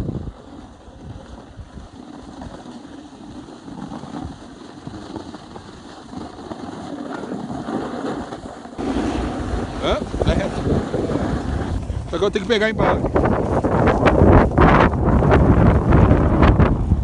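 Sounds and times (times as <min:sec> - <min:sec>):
skis scraping on packed snow: 0:00.0 - 0:17.0
wind buffeting microphone: 0:00.0 - 0:17.0.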